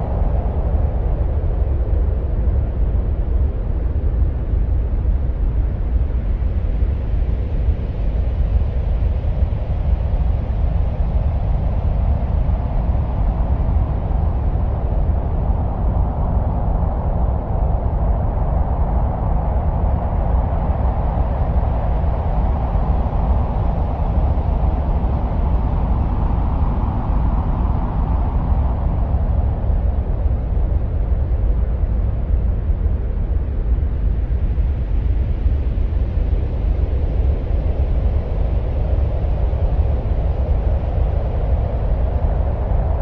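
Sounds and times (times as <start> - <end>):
deep wind-like rumble: 0.0 - 43.0.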